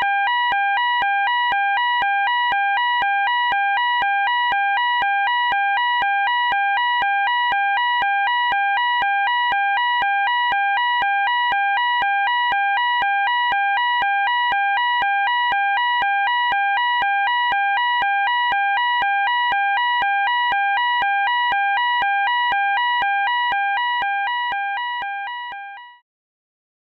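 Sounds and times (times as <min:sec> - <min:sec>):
fire alarm two-tone warble: 0:00.0 - 0:26.0.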